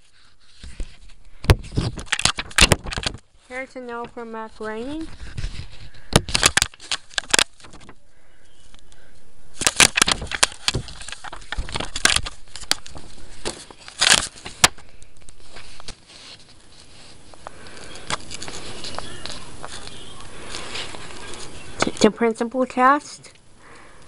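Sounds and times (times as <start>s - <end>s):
paper pages turning: 0.0s - 22.6s.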